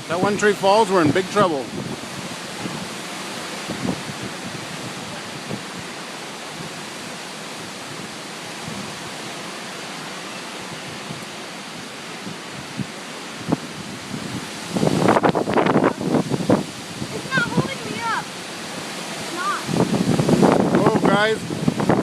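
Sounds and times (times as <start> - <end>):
strong wind through trees: 0.0 - 22.0.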